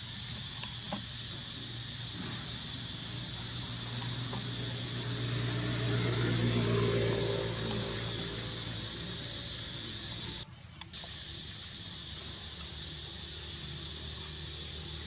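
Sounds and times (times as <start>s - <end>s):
high-pitched insect hiss: 0.0s - 15.0s.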